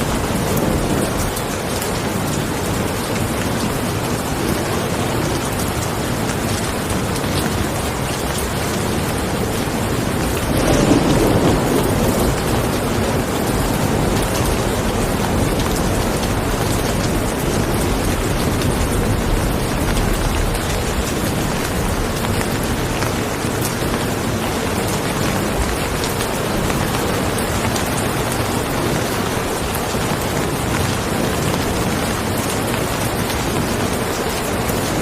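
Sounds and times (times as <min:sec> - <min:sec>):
rain drop hits: 0:00.0 - 0:35.0
rain falling: 0:00.0 - 0:35.0.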